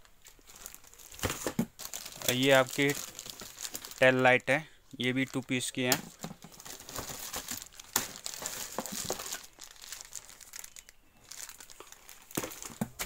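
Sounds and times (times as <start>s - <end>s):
plastic packaging crinkling: 0.1s - 13.0s.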